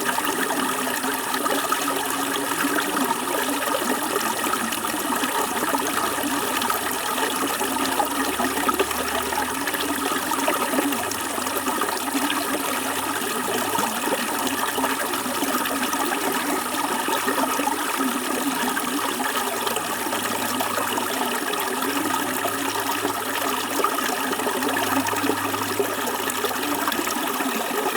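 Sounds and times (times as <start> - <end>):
water rushing: 0.0 - 27.9.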